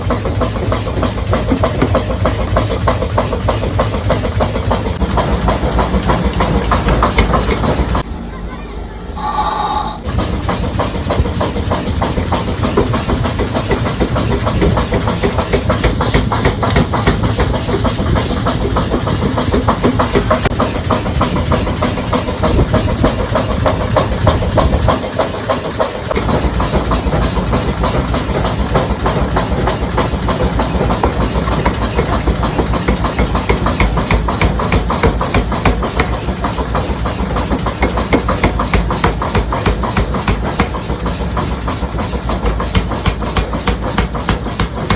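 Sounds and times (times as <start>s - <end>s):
factory machinery clattering: 0.0s - 8.2s, 9.2s - 44.9s.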